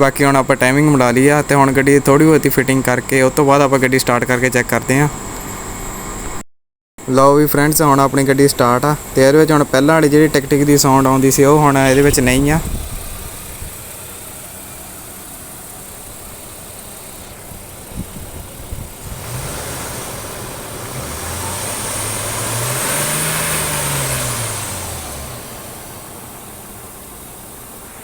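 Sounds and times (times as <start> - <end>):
car engine idling and revving: 0.2 - 6.3, 7.9 - 28.0.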